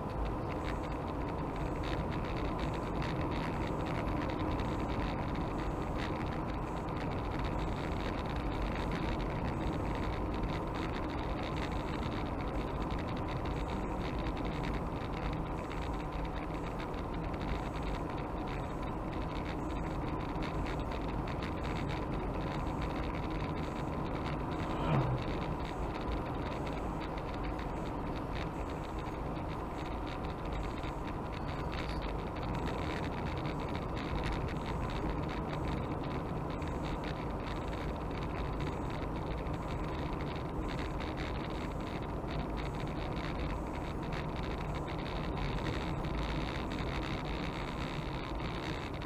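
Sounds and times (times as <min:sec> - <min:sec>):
car engine hum: 0:00.0 - 0:49.0
tyre and road noise: 0:00.0 - 0:49.0.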